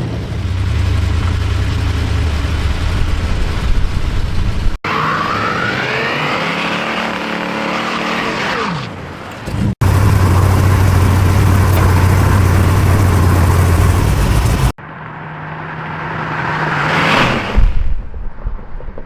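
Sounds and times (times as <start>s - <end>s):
car engine revving: 0.0s - 8.9s, 9.8s - 17.1s
car engine droning: 0.0s - 17.1s.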